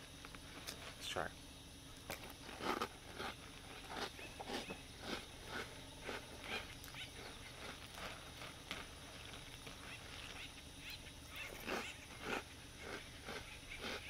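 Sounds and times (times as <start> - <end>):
crunchy cereal chewing: 1.9 - 14.0.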